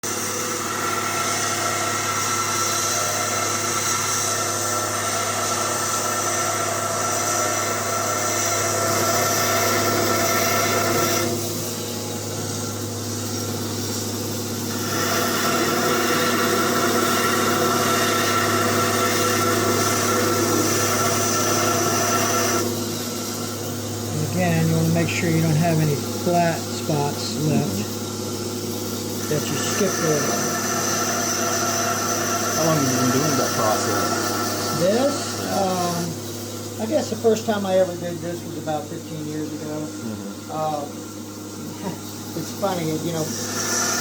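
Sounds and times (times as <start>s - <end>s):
steel blade grinding: 0.0s - 38.0s, 41.8s - 44.0s
grinder motor running: 0.0s - 44.0s.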